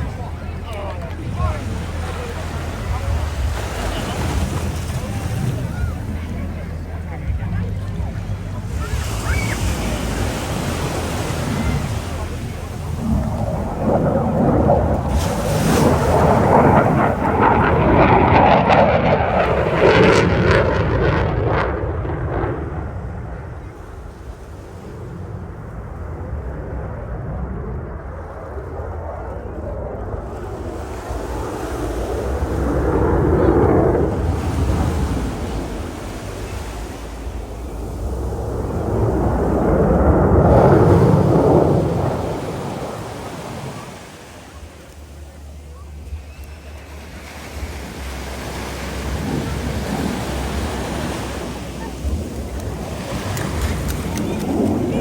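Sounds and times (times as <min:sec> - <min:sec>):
surf: 0:00.0 - 0:55.0
wind: 0:00.0 - 0:55.0
fighter jet roaring past: 0:08.7 - 0:45.0, 0:46.4 - 0:55.0.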